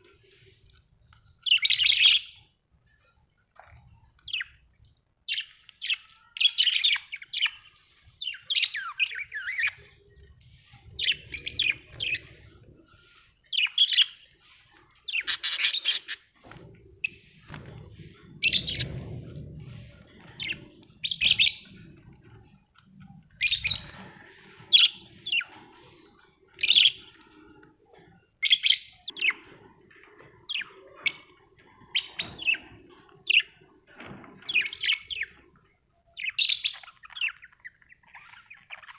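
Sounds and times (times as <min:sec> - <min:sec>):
budgerigars chirping and squawking: 0:00.0 - 0:02.6, 0:03.5 - 0:38.9.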